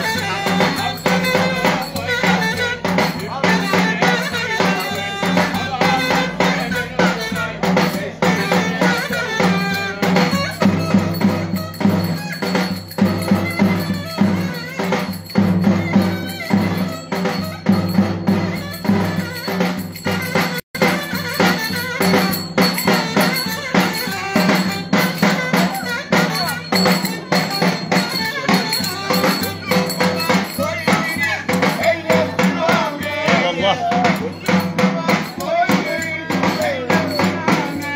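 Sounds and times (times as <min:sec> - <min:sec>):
drum beating steady rhythm: 0:00.0 - 0:37.9.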